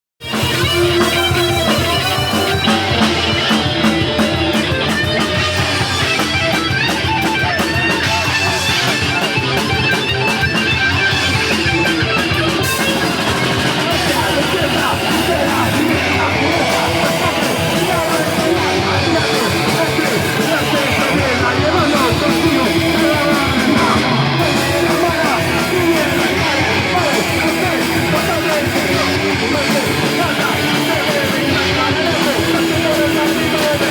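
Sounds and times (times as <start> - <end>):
heavy metal band playing: 0.2 - 33.9.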